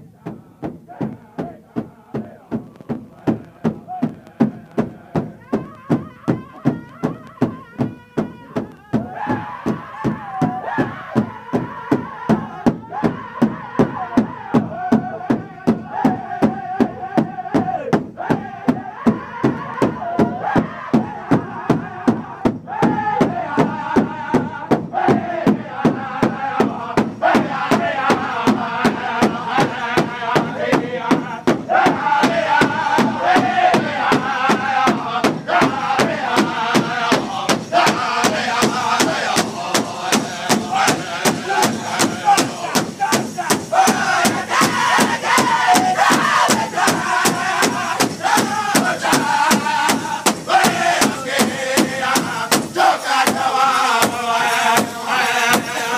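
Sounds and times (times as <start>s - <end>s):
group singing in unison: 0.0s - 55.9s
large drum beating: 0.0s - 55.9s
lead voice singing: 0.0s - 55.9s.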